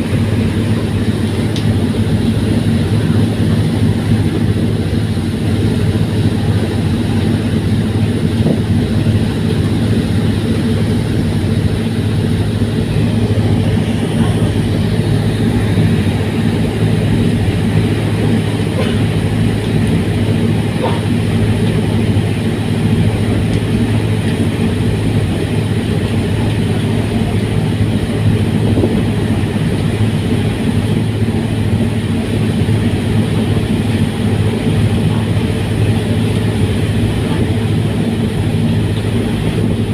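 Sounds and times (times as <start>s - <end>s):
ferry engines droning: 0.0s - 39.9s.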